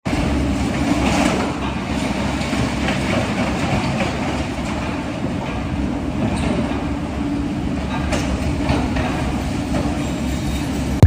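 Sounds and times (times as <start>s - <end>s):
mechanical rumble with rattling clatter: 0.1s - 11.0s.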